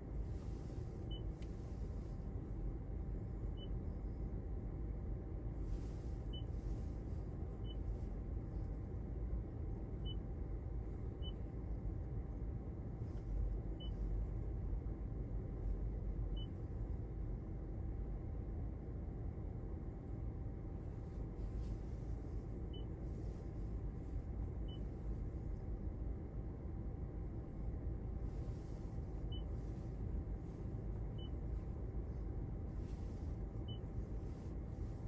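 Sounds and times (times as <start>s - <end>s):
low cabin rumble: 0.0s - 35.0s.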